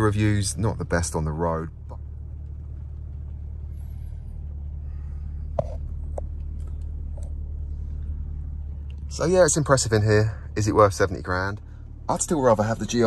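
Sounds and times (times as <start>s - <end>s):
diesel engine idling hum: 0.0s - 13.0s.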